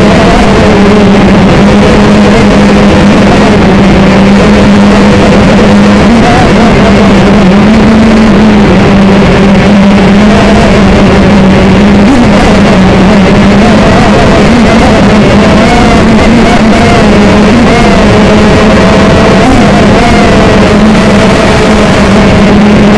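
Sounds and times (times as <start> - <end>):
drone motors and propellers: 0.0 - 22.9.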